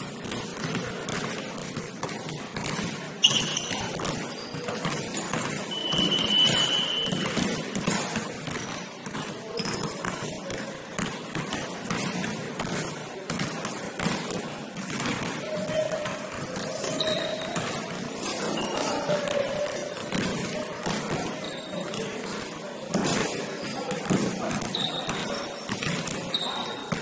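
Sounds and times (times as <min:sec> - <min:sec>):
basketball bouncing on court: 0:00.0 - 0:27.0.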